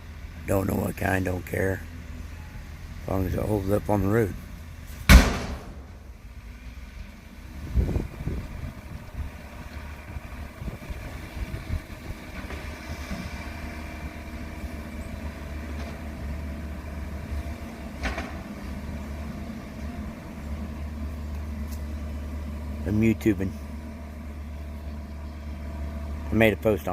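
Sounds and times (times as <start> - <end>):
engine rumbling: 0.0 - 26.9.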